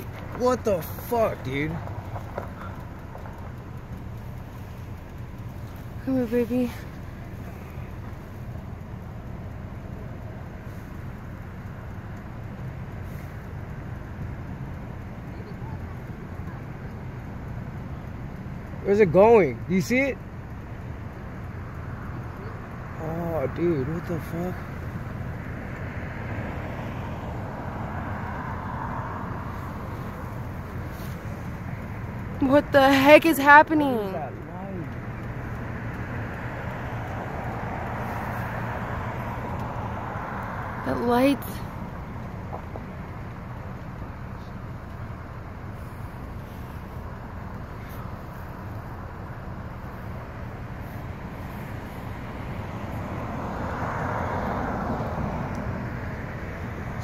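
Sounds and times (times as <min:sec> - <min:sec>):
road traffic rumble: 0:00.0 - 0:57.0
vehicle passing: 0:00.0 - 0:57.0.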